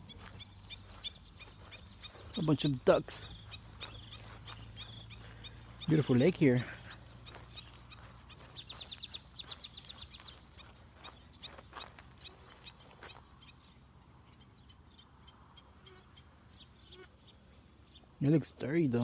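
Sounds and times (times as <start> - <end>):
high bird trills: 0.0 - 18.1.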